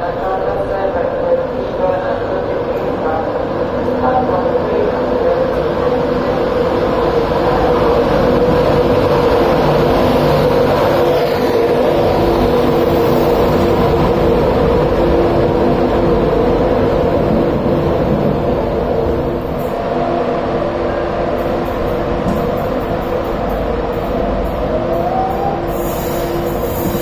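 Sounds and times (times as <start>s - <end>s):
electric train running slowly: 0.0s - 27.0s.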